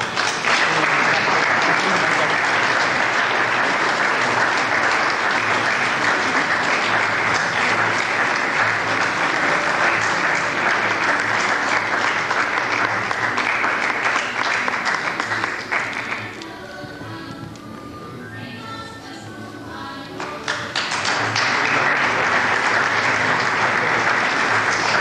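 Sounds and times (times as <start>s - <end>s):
audience applauding: 0.0s - 16.5s, 20.2s - 25.0s
quiet music: 0.0s - 25.0s.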